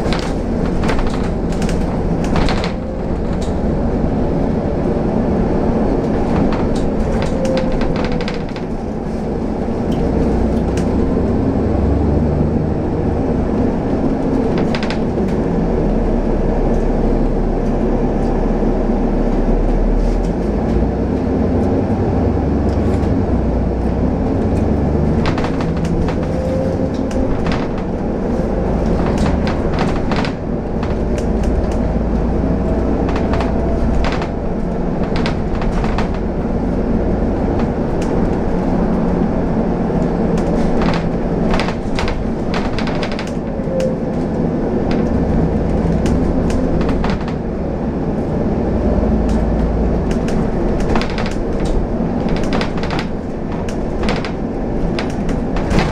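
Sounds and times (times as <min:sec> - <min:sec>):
bodywork and windows rattling: 0:00.0 - 0:17.0, 0:20.0 - 0:55.9
bus engine and road rumble: 0:00.0 - 0:55.9.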